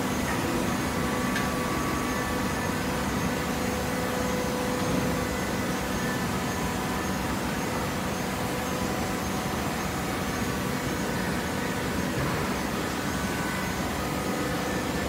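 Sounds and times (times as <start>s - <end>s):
hydraulic baler humming: 0.0s - 15.0s.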